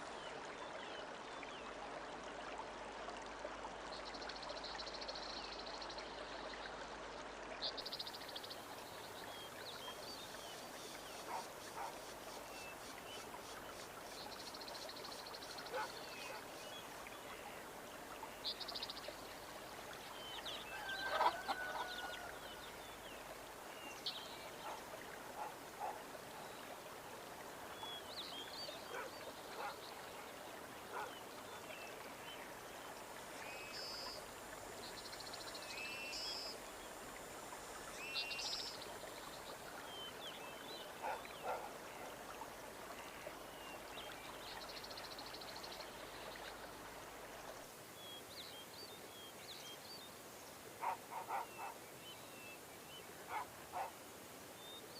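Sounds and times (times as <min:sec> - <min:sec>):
steady background hiss: 0:00.0 - 0:54.9.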